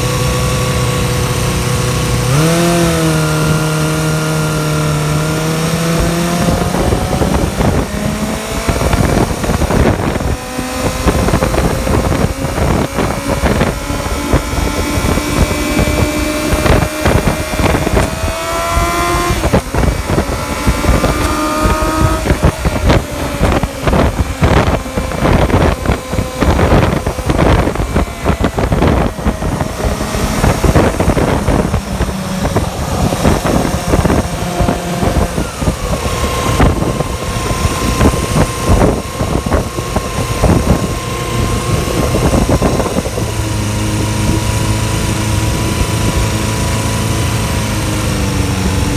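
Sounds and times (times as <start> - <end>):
motorcycle engine: 0.0 - 48.9
wind buffeting microphone: 0.0 - 48.9.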